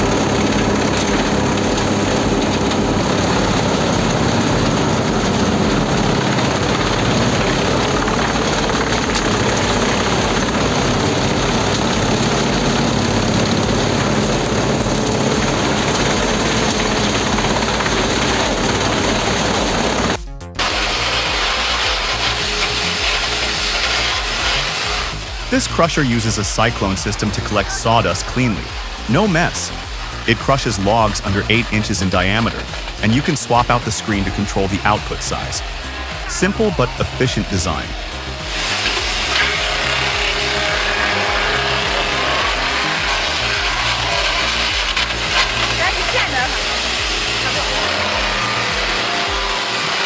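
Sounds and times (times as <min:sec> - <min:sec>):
hissy high-pitched wood crusher: 0:00.0 - 0:50.0
wood chipper running: 0:00.0 - 0:50.0.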